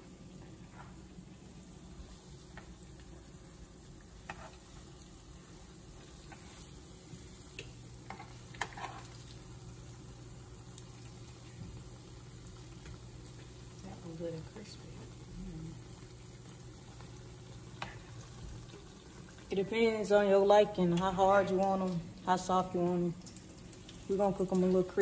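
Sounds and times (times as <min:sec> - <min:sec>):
frying sizzle: 0:00.0 - 0:25.0.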